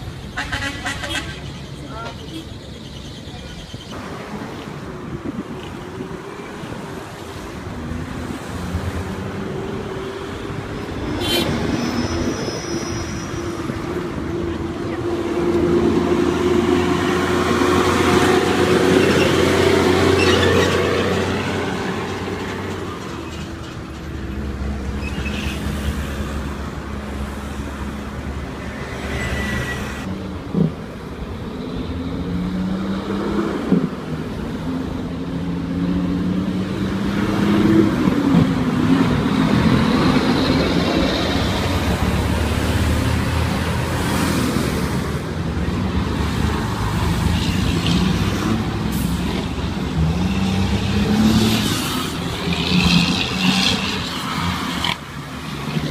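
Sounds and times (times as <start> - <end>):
diesel trucks driving past: 6.6 - 55.9.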